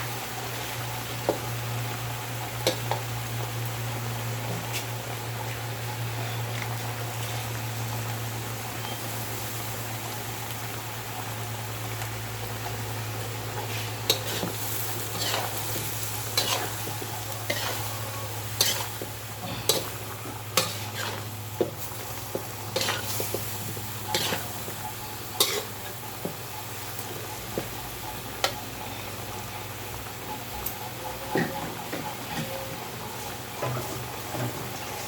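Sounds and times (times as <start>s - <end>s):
food sizzling: 0.0s - 35.0s.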